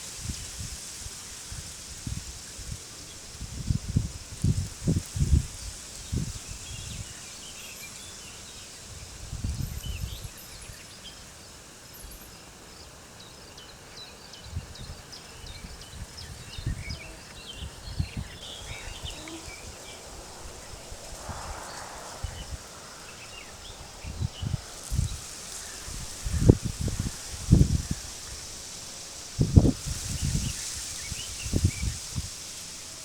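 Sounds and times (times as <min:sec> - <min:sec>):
wind rumbling on microphone: 0:00.0 - 0:10.9, 0:14.2 - 0:33.0
wind hiss: 0:00.0 - 0:33.0
small birds chirping: 0:04.0 - 0:32.3.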